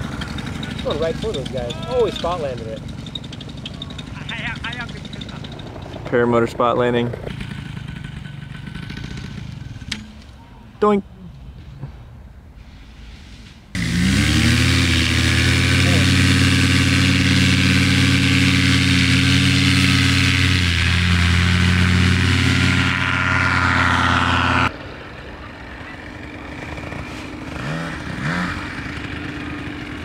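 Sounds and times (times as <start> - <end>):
paramotor engine running: 0.0 - 10.2, 13.8 - 30.0.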